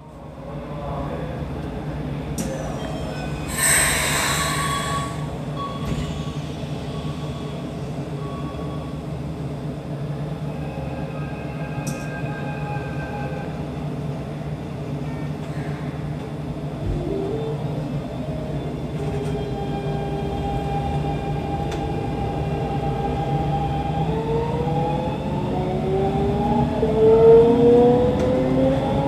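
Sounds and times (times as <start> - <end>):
train equipment hum: 1.4 - 29.0.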